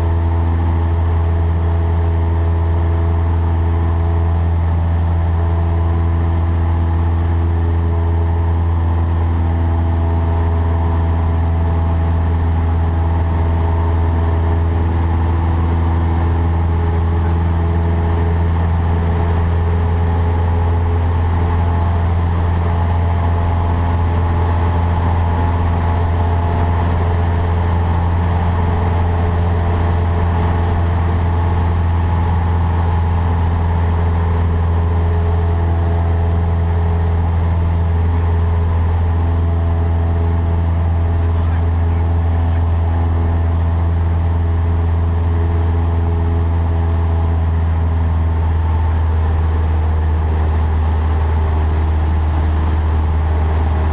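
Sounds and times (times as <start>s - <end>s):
small plane engine droning: 0.0s - 53.9s.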